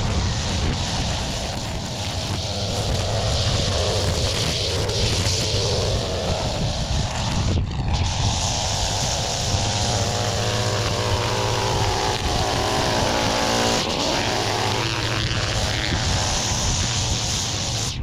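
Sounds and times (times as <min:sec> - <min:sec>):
string trimmer engine running: 0:00.0 - 0:18.0.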